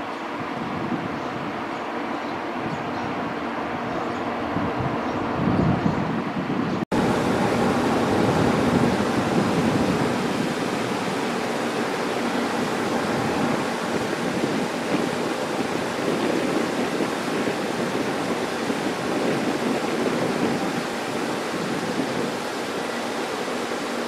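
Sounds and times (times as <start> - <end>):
rushing station platform noise: 0.0 - 24.0.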